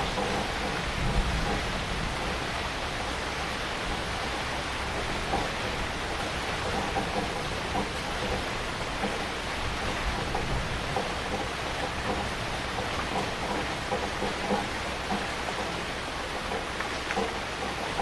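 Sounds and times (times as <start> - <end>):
close raindrop hits: 0.0 - 18.0
heavy rain falling: 0.0 - 18.0.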